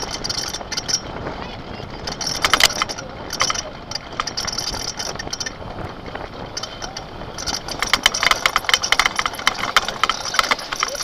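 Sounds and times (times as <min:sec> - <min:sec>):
cart clattering rattles: 0:00.0 - 0:11.0
wheels rolling on asphalt: 0:00.0 - 0:11.0.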